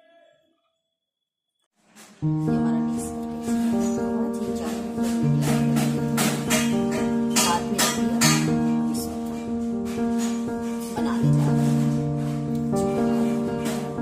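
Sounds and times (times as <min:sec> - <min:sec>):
held chords: 0:02.2 - 0:14.0.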